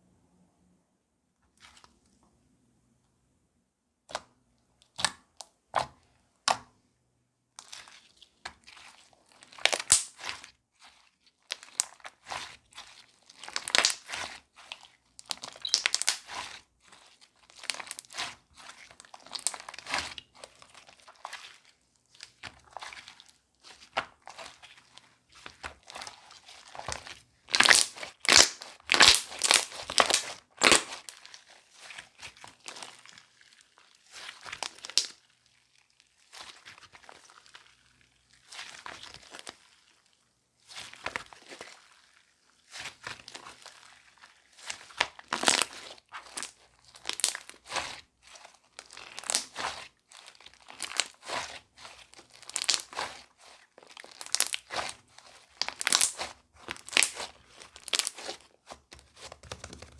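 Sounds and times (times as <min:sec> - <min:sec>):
slime squished by hand: 0:07.6 - 0:59.9.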